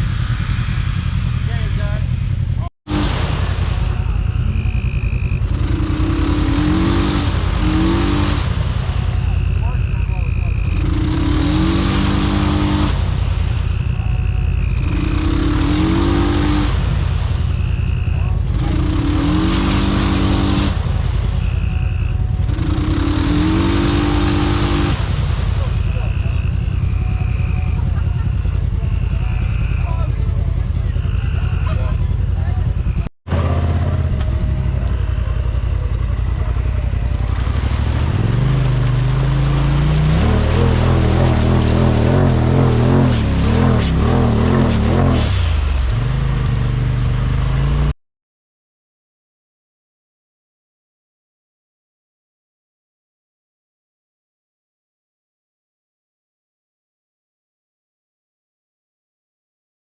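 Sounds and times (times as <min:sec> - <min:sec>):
engine low rumble: 0:00.0 - 0:48.0.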